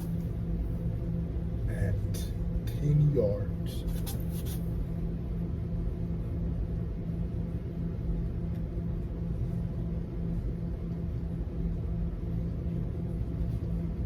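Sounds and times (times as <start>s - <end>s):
faint pulsing hum: 0.0s - 14.0s
steady low rumble: 0.0s - 14.0s.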